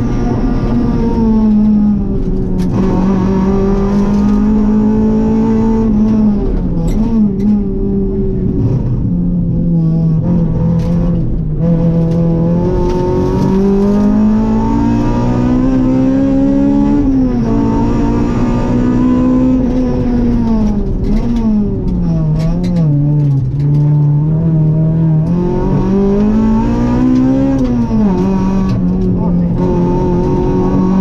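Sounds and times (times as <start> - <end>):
rally car engine: 0.0 - 31.0.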